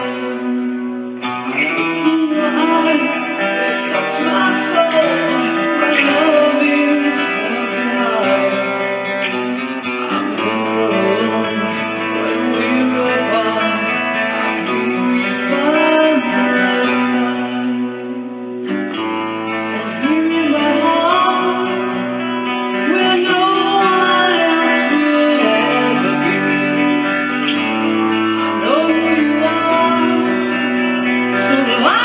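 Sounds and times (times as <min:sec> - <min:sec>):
man singing: 0:00.0 - 0:32.0
rock ballad guitars: 0:00.0 - 0:32.0.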